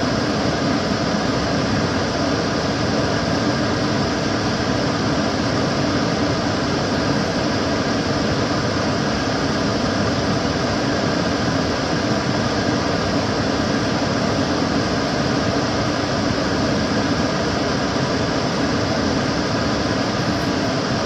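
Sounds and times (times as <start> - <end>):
extractor fan running: 0.0 - 21.0.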